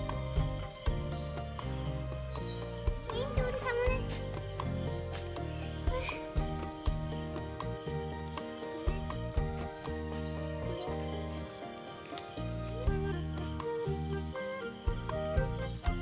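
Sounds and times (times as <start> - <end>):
crickets and insects chirring: 0.0 - 16.0
soft background music: 0.0 - 16.0.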